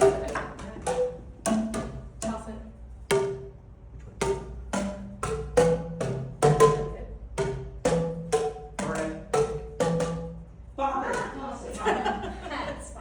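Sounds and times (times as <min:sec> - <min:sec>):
plastic tubes struck bonking: 0:00.0 - 0:11.4.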